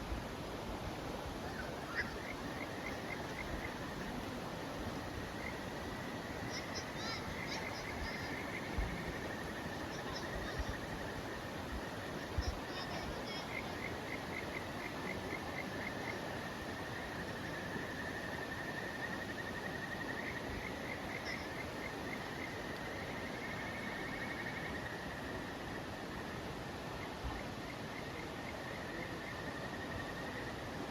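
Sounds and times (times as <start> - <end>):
background hiss: 0.0 - 30.9.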